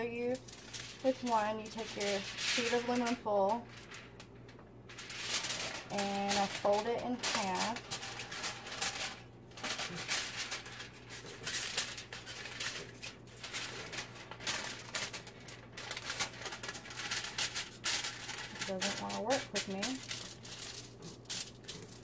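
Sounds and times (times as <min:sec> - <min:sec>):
aluminum foil crinkling: 0:00.0 - 0:22.0
faint steady hum: 0:00.0 - 0:22.0.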